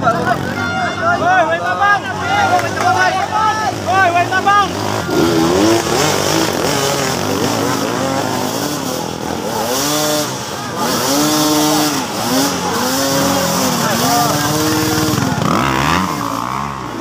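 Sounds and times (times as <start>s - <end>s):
dirt bike engine revving: 2.0s - 17.0s.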